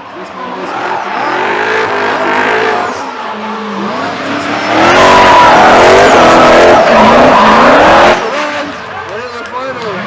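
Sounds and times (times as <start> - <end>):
car engine revving hard: 0.4 - 8.7
tyres squealing: 0.4 - 8.8.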